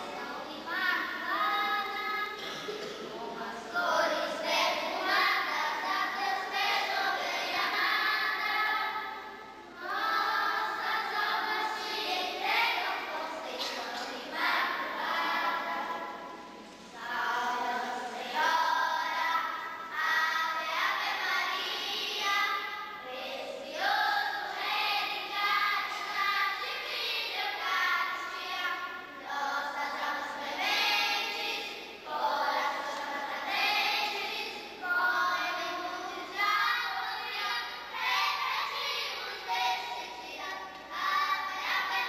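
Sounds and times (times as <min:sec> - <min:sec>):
girls singing a hymn: 0:00.0 - 0:42.0.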